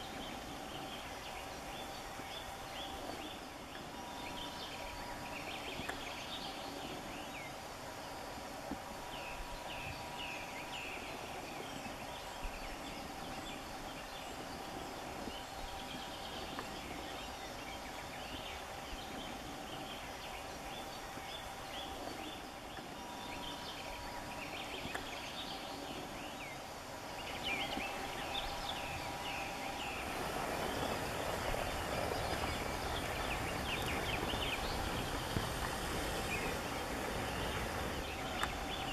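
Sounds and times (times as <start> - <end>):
small birds chirping: 0.0 - 38.9
steady background hiss: 0.0 - 38.9.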